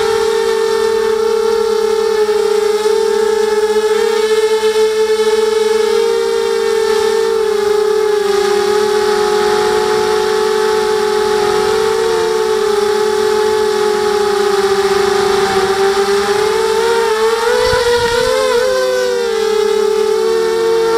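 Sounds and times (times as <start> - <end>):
drone motors whining: 0.0 - 20.9.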